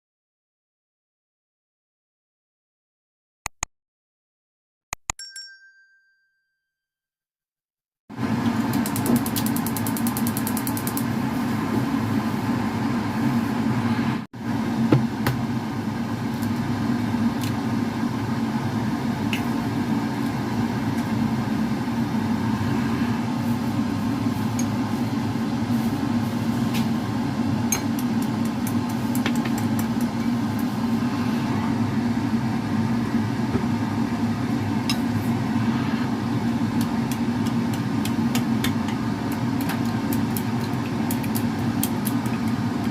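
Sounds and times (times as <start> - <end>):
machine hum: 8.1 - 42.9.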